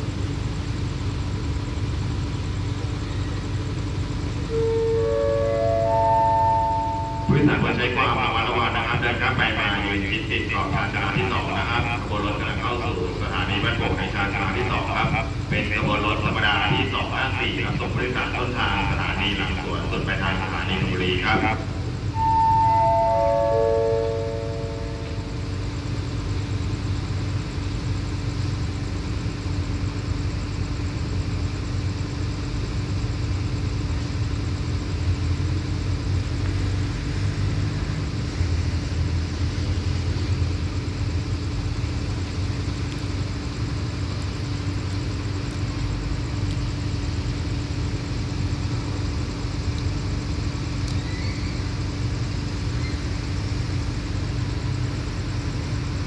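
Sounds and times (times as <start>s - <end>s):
diesel locomotive idling: 0.0s - 56.0s.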